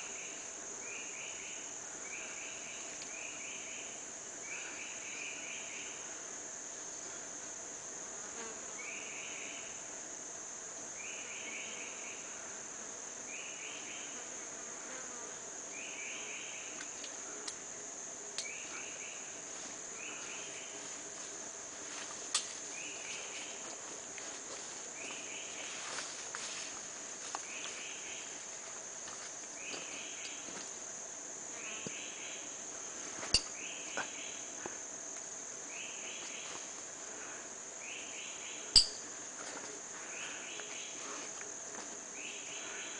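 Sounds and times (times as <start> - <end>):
insect chirping call: 0.0 - 42.9
insects droning: 0.0 - 42.9.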